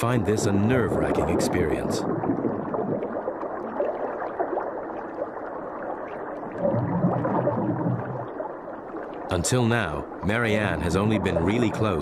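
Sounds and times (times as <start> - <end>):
underwater bubbling: 0.0 - 12.0.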